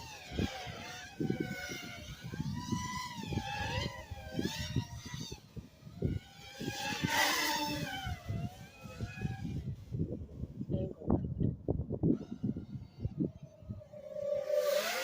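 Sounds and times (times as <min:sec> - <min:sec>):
quadcopter motors whining: 0:00.0 - 0:15.0
wind buffeting: 0:00.0 - 0:15.0.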